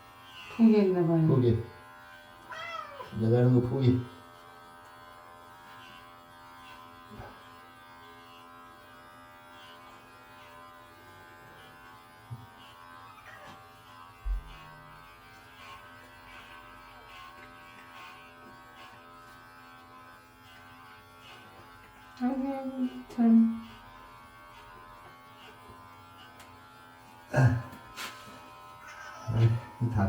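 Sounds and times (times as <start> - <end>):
electric clippers buzzing: 0.0 - 30.0.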